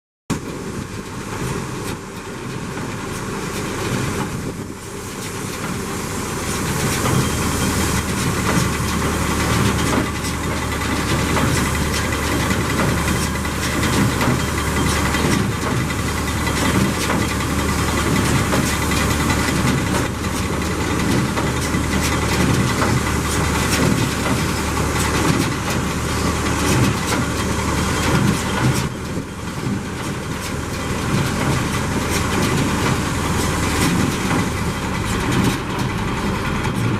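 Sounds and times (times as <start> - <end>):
tractor engine running: 0.3 - 36.9
baler knocking and clatter: 6.8 - 36.9.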